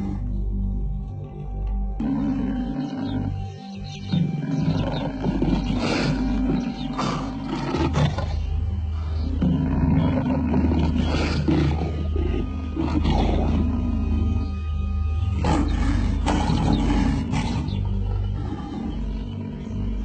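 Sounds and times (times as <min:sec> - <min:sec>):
lion roaring: 0:00.0 - 0:00.4, 0:02.0 - 0:20.0
background music with deep drone: 0:00.0 - 0:20.0.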